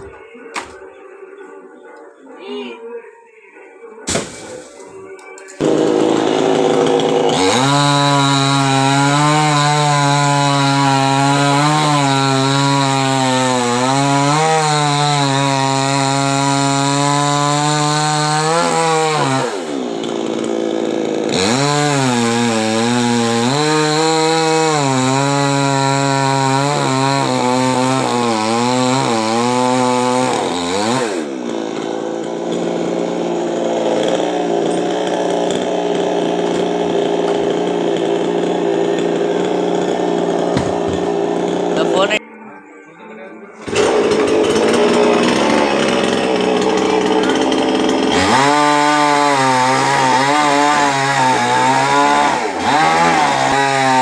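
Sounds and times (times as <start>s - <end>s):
chainsaw engine cutting: 5.5s - 42.2s, 43.6s - 54.0s.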